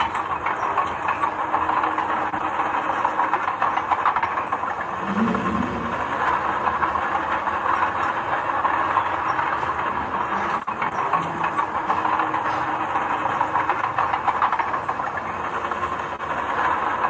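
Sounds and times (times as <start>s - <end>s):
earthmoving machinery clatter: 0.0s - 17.0s.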